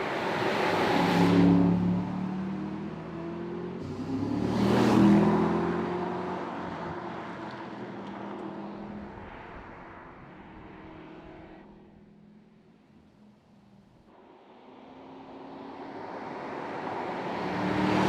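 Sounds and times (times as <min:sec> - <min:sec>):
sports car passing by: 0:00.0 - 0:12.7, 0:14.2 - 0:18.0.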